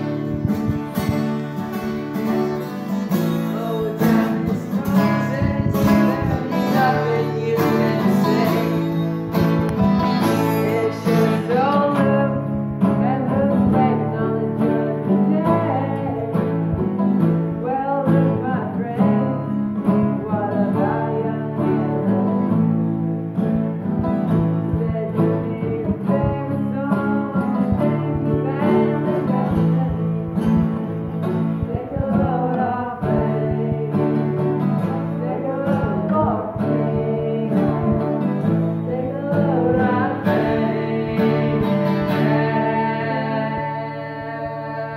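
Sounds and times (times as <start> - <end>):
acoustic guitars strummed: 0.0 - 44.9
man singing: 2.2 - 22.8, 24.2 - 44.9.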